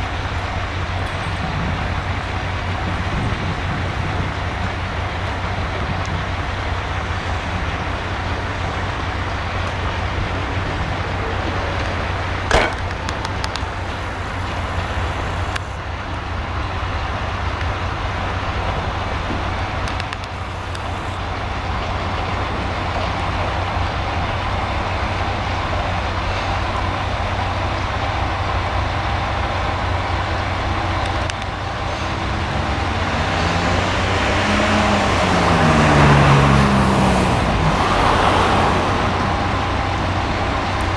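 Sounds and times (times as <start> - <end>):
diesel train engine rumbling: 0.0 - 40.9.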